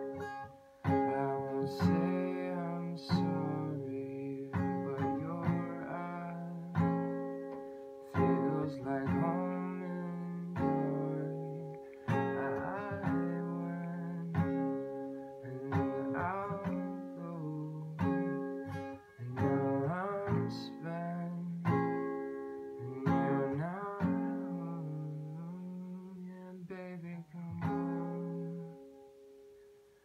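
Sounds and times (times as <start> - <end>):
acoustic guitar chords strummed: 0.0 - 29.9.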